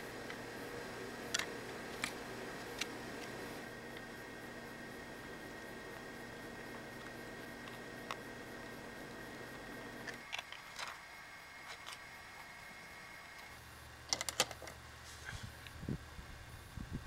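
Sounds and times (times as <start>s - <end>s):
room hiss: 0.0s - 17.0s.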